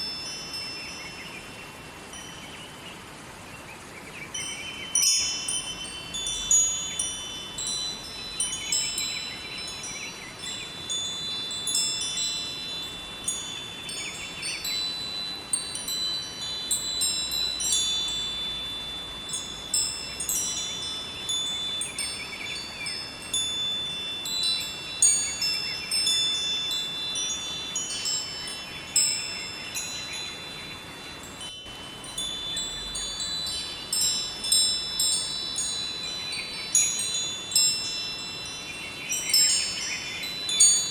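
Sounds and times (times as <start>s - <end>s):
wind chimes ringing: 0.0s - 3.5s, 4.2s - 40.9s
river water rushing: 0.0s - 40.9s.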